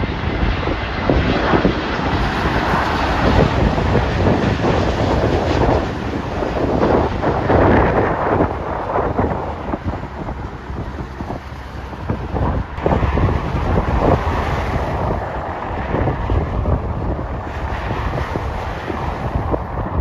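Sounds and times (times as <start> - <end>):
steady rumble: 0.0 - 20.0
wind buffeting microphone: 0.0 - 20.0.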